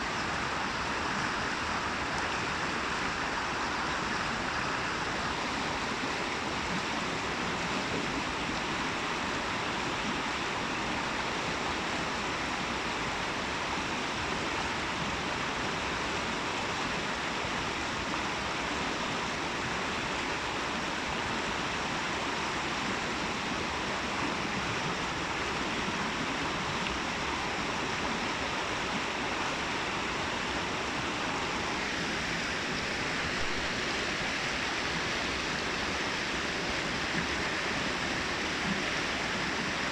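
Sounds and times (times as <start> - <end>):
water rushing in a brook: 0.0 - 39.9.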